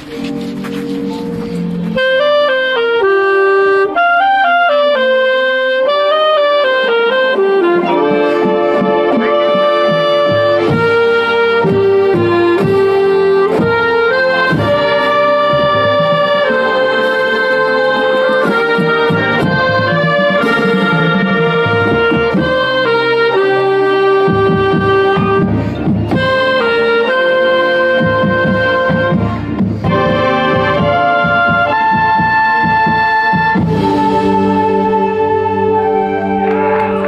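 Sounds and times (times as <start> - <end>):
marching band playing: 0.0 - 37.0
reed woodwind melody: 0.0 - 37.0.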